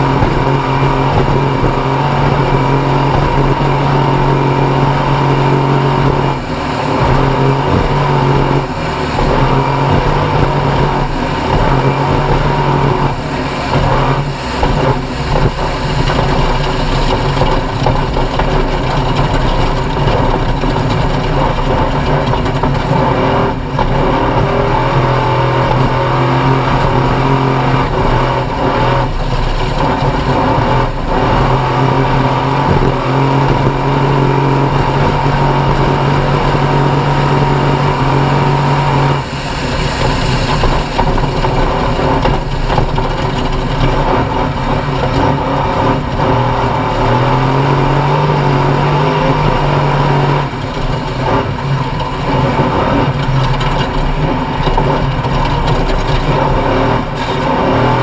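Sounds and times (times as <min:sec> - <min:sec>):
race vehicle engine revving: 0:00.0 - 0:58.0.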